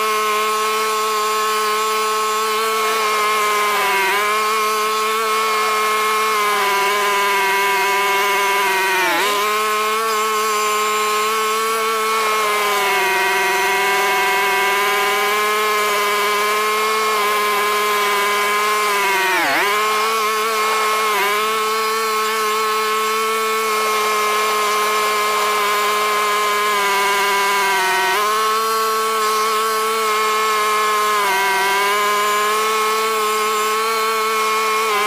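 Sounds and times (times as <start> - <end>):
high buzzy engine with snowblower: 0.0 - 35.0.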